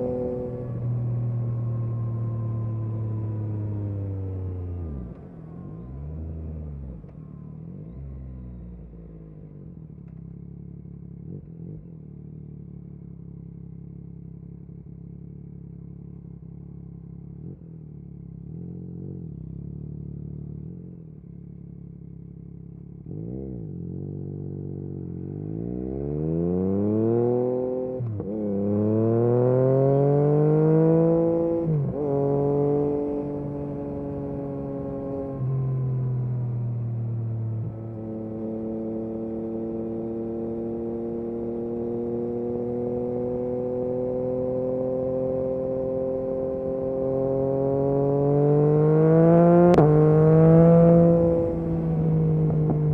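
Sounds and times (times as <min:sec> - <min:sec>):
motorcycle engine revving: 0:00.0 - 0:07.1, 0:07.8 - 0:52.9.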